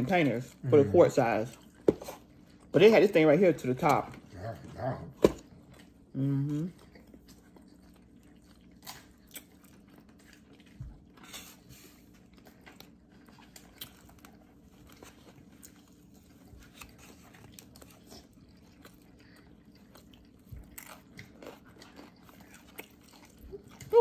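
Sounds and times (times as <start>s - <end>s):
faint low hum: 0.0s - 24.0s
person chewing crunchy food: 0.0s - 24.0s.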